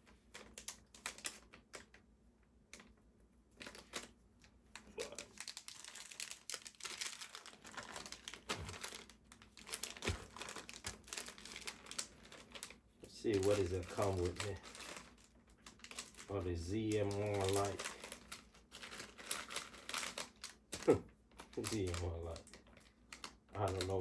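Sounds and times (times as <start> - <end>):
plastic bag crinkling: 0.0 - 2.0, 2.7 - 24.0.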